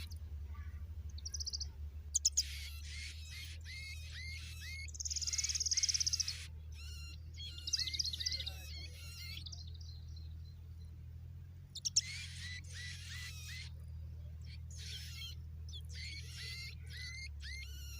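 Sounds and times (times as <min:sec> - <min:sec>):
baby birds calling: 0:00.0 - 0:11.0, 0:11.6 - 0:17.9
steady low hum: 0:00.0 - 0:17.9.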